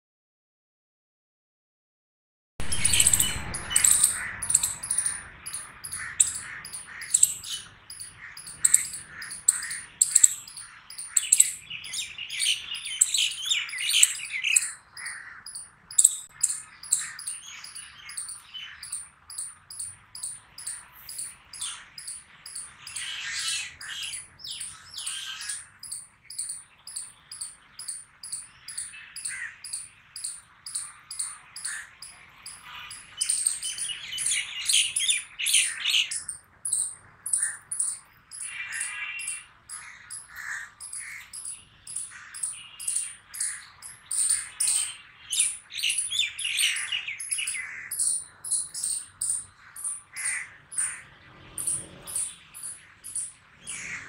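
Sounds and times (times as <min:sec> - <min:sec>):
bird-like calls: 0:02.6 - 0:54.0
squirrels chirping: 0:02.6 - 0:54.0.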